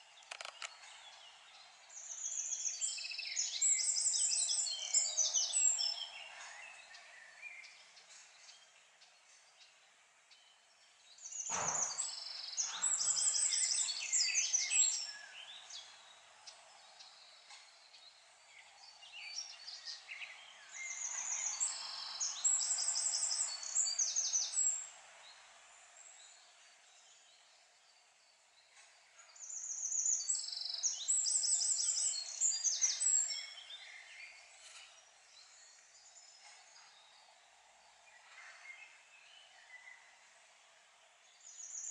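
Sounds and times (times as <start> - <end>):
songbird singing: 0.0 - 41.9
steady outdoor hiss: 0.0 - 41.9.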